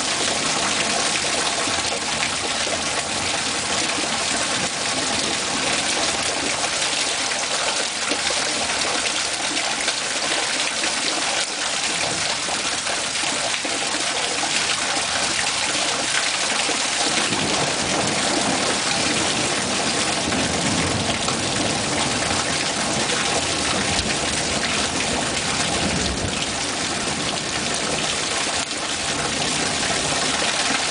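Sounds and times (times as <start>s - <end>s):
heavy rain pouring: 0.0s - 30.9s.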